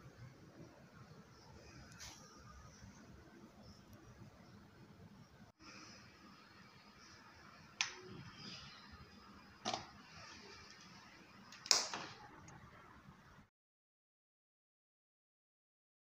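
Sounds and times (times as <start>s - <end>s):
faint room noise: 0.0s - 13.5s.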